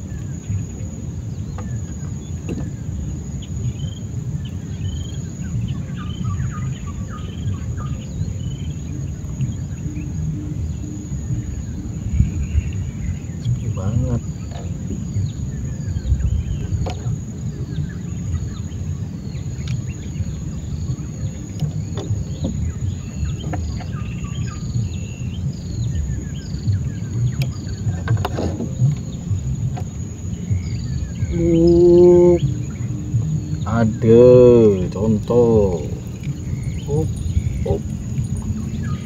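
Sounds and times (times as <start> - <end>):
bird chirping: 0.0 - 39.0
insect drone: 0.0 - 39.0
low rumble: 0.0 - 39.0.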